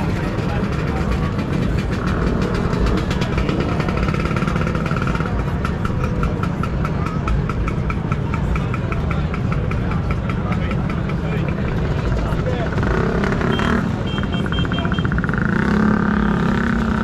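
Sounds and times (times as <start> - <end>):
scooter engines running: 0.0 - 17.0.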